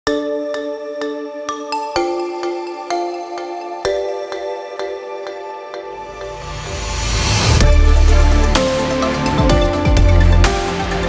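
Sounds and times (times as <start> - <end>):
bell-like mallet notes: 0.1 - 11.0.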